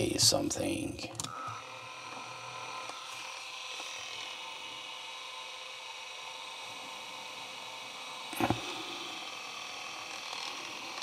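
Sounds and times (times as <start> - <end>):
cassette player mechanical whine: 0.0 - 11.0.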